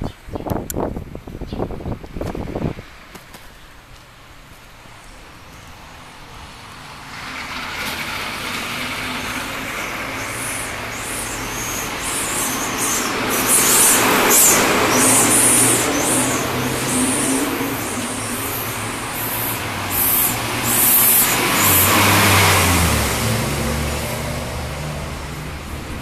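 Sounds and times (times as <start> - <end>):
bus engine passing: 2.1 - 26.0.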